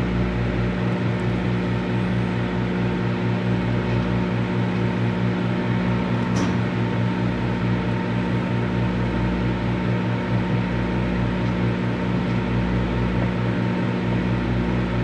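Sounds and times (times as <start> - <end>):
fan whirring: 0.0 - 15.0
microwave oven humming: 0.0 - 15.0.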